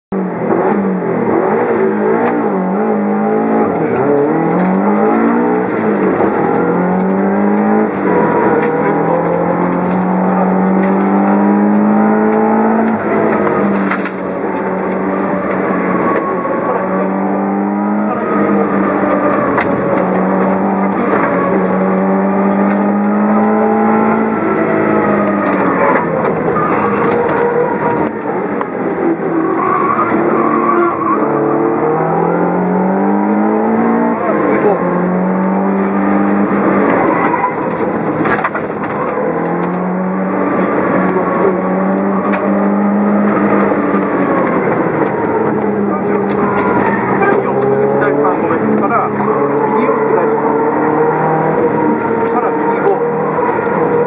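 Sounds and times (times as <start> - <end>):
car engine revving: 0.1 - 54.0.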